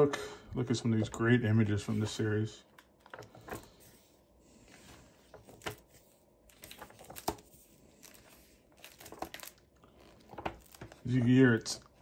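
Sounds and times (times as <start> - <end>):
book pages turning: 1.5 - 12.0.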